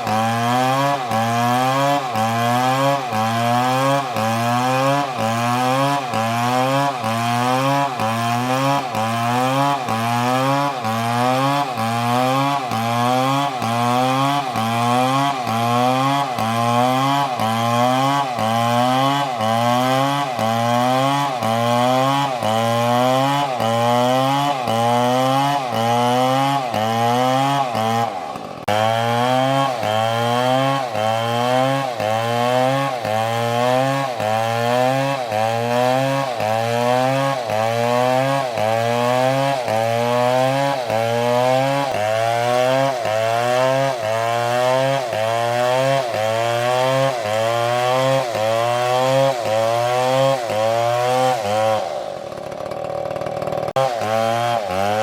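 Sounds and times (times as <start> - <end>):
chainsaw cutting: 0.0 - 55.0.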